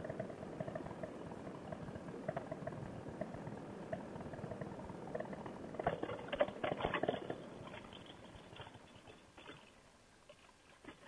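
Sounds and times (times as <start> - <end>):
crackling rush of wind: 0.0 - 11.0
wheels rattling over bumpy grass: 0.0 - 11.0.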